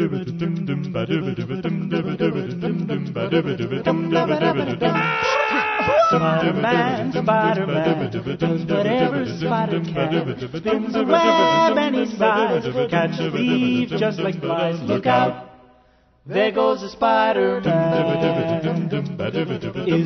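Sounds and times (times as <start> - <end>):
song with singing voices: 0.0 - 20.0.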